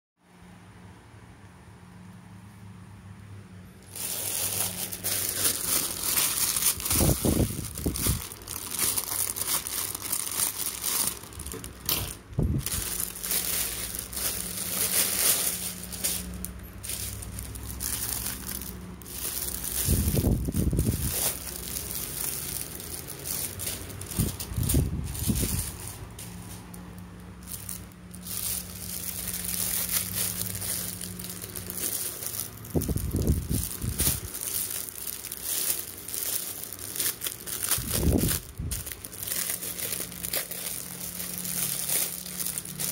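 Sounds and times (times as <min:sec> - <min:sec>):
plastic crinkling and rustling: 0:03.8 - 0:42.9.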